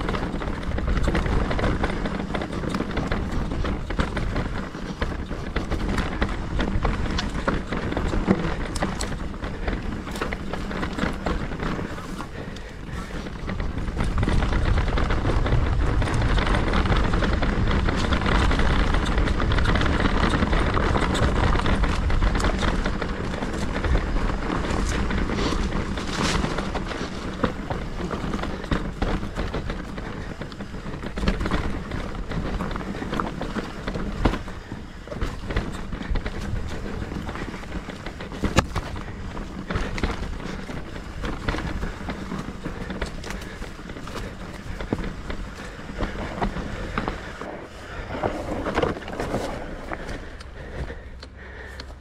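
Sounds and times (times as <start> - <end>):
bike clicks and rattles: 0.0 - 52.0
tyres on dirt and stones: 0.0 - 52.0
wind buffeting microphone: 0.0 - 52.0.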